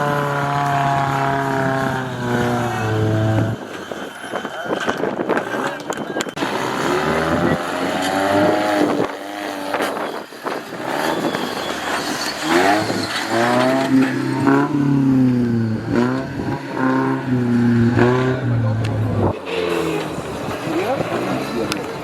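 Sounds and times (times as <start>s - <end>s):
off-road engine revving: 0.0s - 22.0s.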